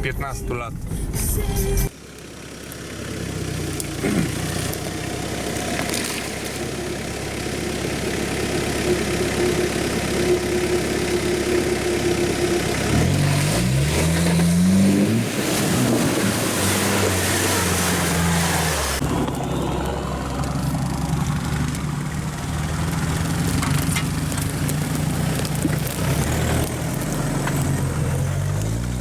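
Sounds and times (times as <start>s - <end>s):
off-road vehicle engine revving: 1.9s - 29.0s.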